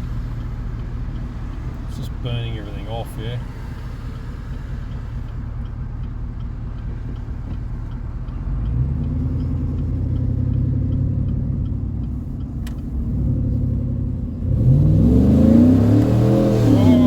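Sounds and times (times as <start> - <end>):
truck engine rumbling while driving: 0.0 - 17.0.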